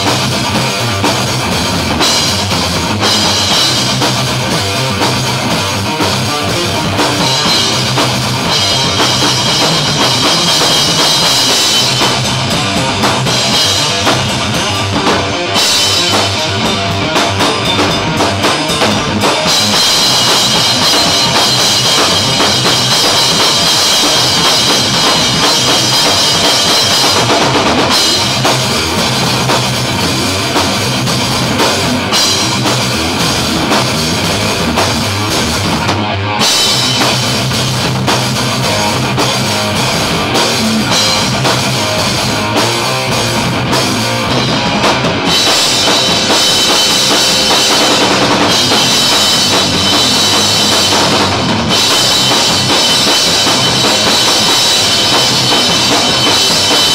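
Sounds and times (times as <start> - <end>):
drum kit with cymbals: 0.0 - 56.9
electric guitar: 0.0 - 56.9
live metal band: 0.0 - 56.9.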